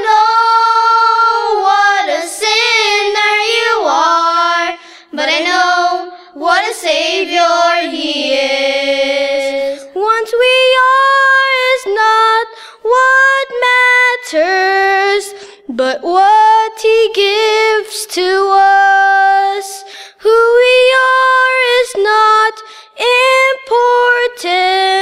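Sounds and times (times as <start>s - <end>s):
girl singing a gospel song: 0.0s - 25.0s.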